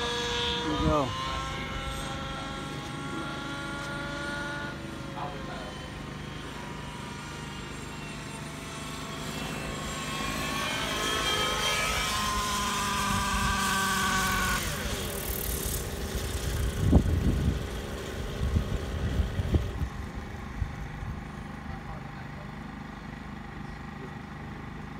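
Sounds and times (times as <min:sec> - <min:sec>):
rc helicopter engine whine: 0:00.0 - 0:24.9.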